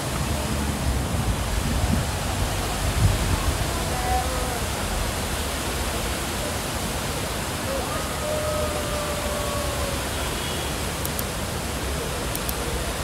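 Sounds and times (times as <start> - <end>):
faint voices of passers-by: 0.0 - 13.0
fountain water splashing: 0.0 - 13.0.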